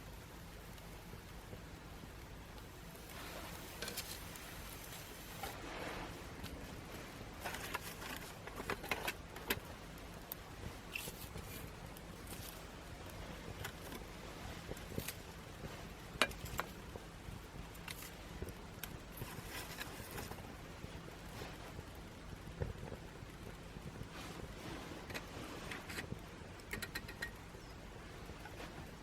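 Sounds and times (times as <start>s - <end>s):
fire hissing: 0.0s - 29.0s
twig fire crackling and popping: 0.0s - 29.0s.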